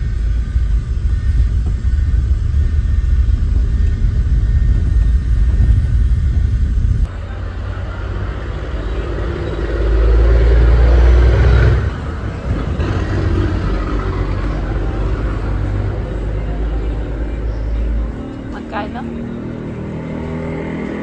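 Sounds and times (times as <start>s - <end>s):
vehicle engine and road rumble: 0.0s - 21.0s.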